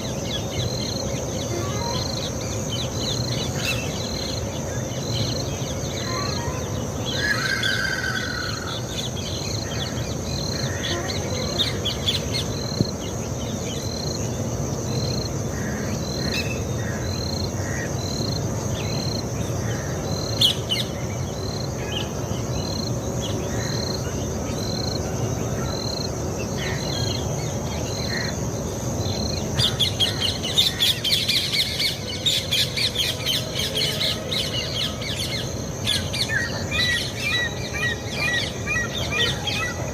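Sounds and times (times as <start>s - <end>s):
birds calling: 0.0s - 39.9s
high insect drone: 0.0s - 39.9s.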